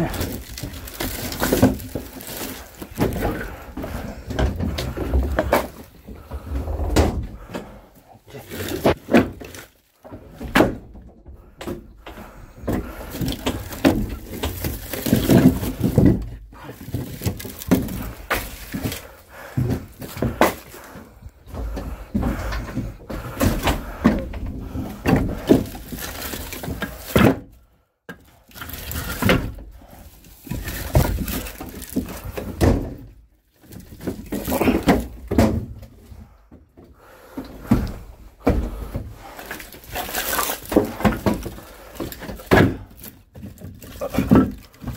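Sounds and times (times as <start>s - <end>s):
firewood logs knocking together: 0.0s - 44.9s.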